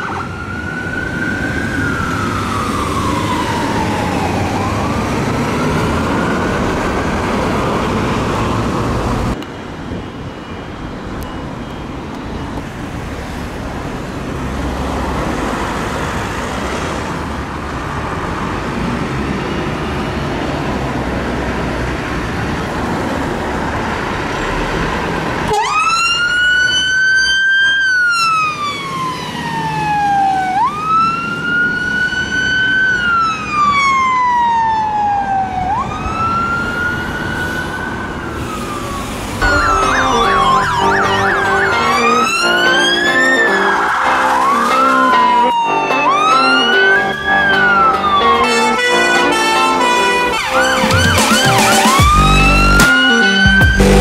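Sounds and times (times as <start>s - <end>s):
fire engine siren wailing: 0.0s - 54.0s
road and engine noise: 0.0s - 54.0s.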